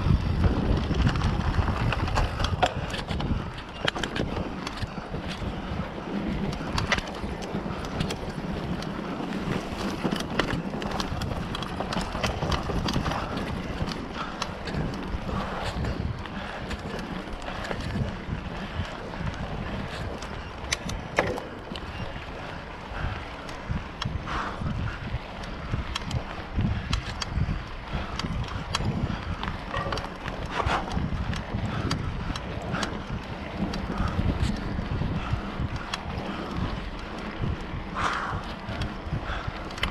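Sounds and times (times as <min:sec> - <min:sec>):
bike rattles and clicks: 0:00.0 - 0:39.9
bike tyre rumble on dirt: 0:00.0 - 0:39.9
wind buffeting microphone: 0:00.0 - 0:39.9.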